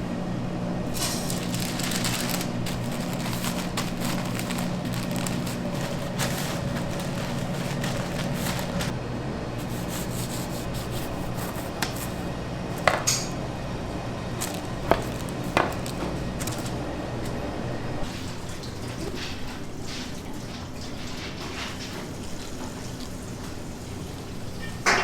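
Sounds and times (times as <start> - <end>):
low machine hum: 0.0 - 21.4.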